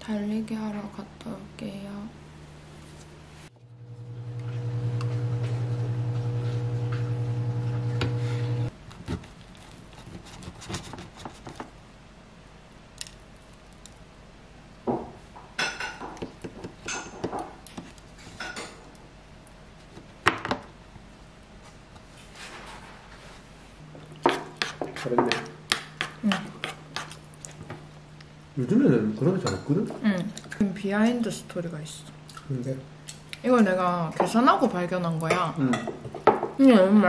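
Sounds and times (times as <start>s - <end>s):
low appliance hum: 0.0s - 37.0s.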